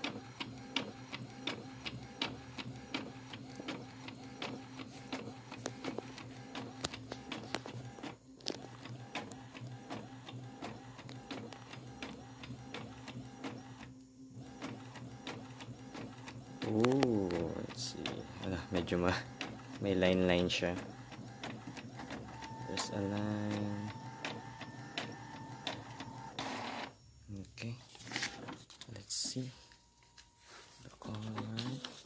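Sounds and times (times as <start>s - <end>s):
printer clicks: 0.0s - 13.7s, 14.4s - 26.9s
printer head whirring: 0.0s - 27.2s.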